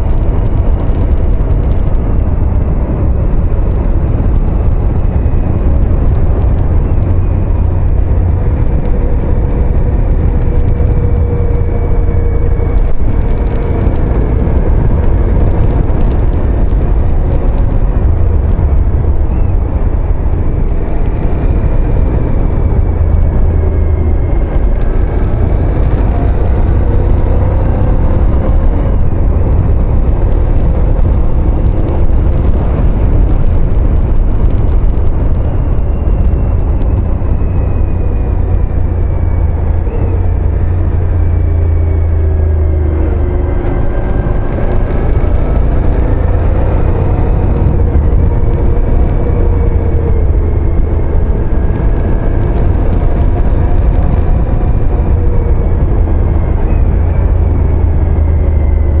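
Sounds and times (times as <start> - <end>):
motorcycle engine: 0.0 - 59.0
wind buffeting microphone: 0.0 - 59.0.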